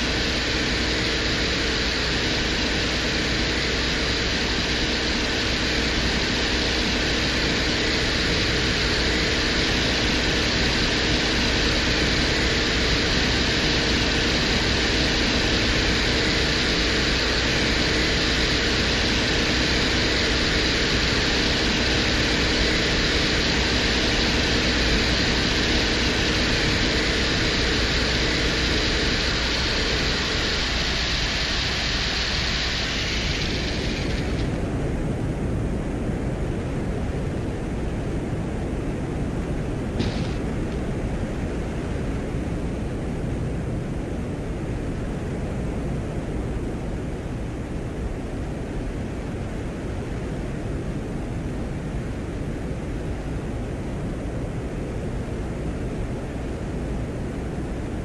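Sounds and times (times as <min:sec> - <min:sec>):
low hum: 0:00.0 - 0:46.6
static-like hiss: 0:00.0 - 0:58.0.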